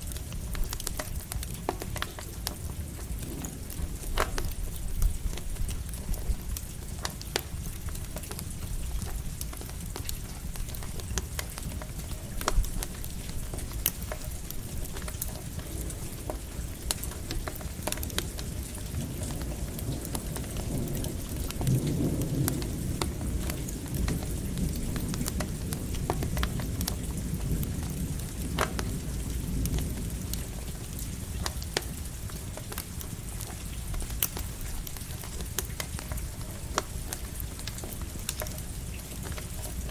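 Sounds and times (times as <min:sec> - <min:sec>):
campfire crackling: 0:00.0 - 0:39.9
steady rain: 0:00.0 - 0:39.9
distant thunder rumble: 0:02.4 - 0:13.8, 0:14.4 - 0:39.9.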